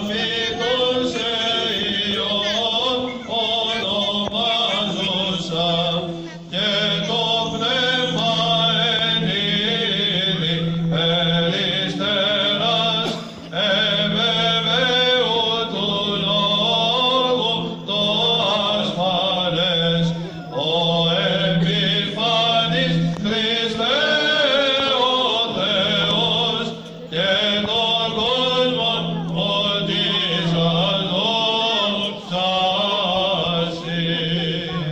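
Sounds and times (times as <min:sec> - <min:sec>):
men chanting through microphone: 0:00.0 - 0:34.9.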